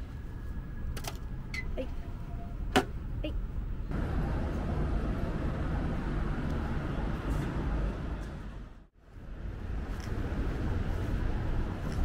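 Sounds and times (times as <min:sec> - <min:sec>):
distant traffic rumble: 0:00.0 - 0:12.0.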